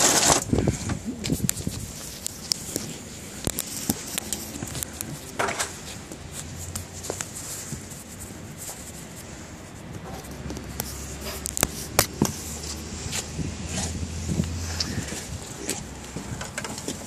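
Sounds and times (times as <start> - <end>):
rustling: 0.0 - 15.2.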